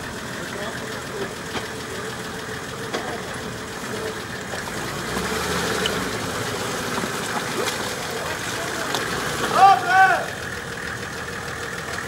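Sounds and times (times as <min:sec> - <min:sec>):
off-road vehicle engine in mud: 0:00.0 - 0:12.0.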